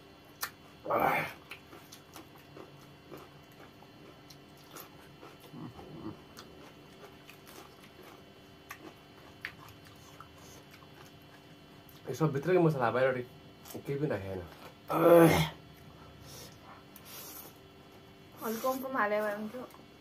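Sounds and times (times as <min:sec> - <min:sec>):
people chewing noodles: 0:00.3 - 0:12.1, 0:13.6 - 0:20.0.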